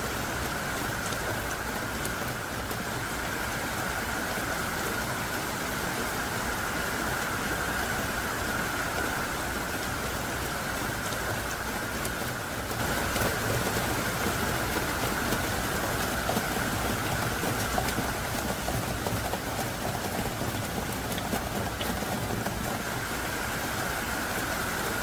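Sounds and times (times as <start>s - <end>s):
heavy rain pelting: 0.0s - 25.0s.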